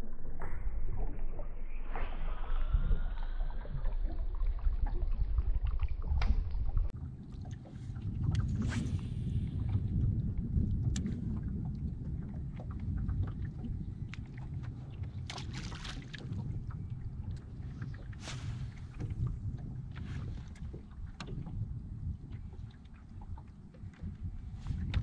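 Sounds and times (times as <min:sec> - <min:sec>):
water around a boat: 0:00.0 - 0:25.0
wind rumbling: 0:00.0 - 0:25.0.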